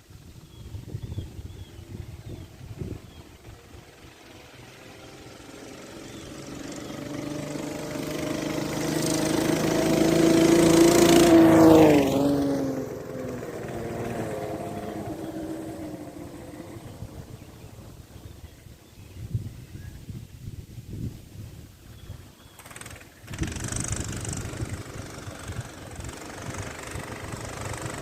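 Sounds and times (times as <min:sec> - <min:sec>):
mini bike engine passing: 0:00.2 - 0:19.1, 0:22.0 - 0:28.0.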